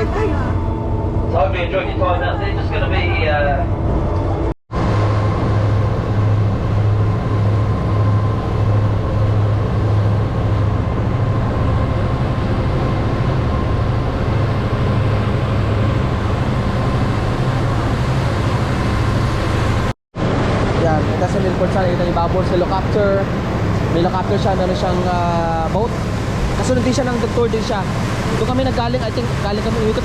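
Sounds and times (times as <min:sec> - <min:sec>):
boat engine drone: 0:00.0 - 0:30.0
continuous rushing noise: 0:00.0 - 0:30.0.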